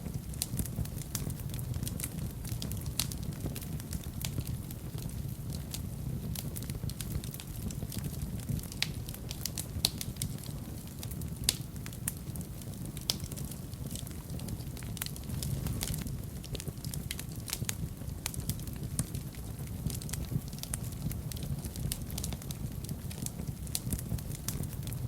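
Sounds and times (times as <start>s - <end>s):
fire crackling and popping: 0.0s - 25.0s
low steady fire rumble: 0.0s - 25.0s.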